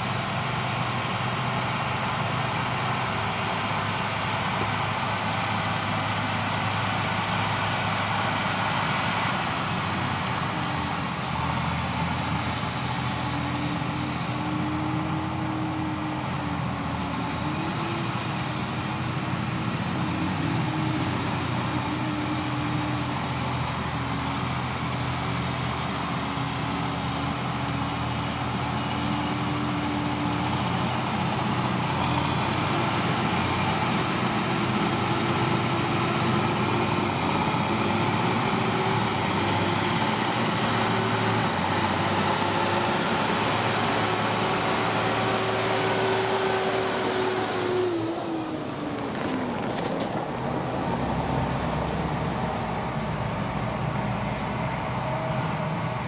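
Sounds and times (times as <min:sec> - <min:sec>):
forage harvester drone: 0:00.0 - 0:56.0
tractor engine: 0:00.0 - 0:56.0.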